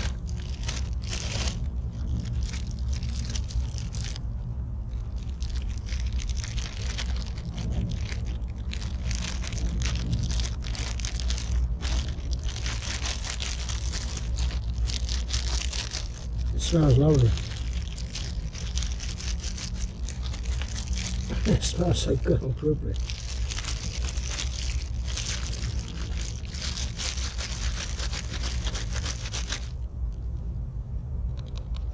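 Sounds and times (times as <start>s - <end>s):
low rumble: 0.0s - 31.9s.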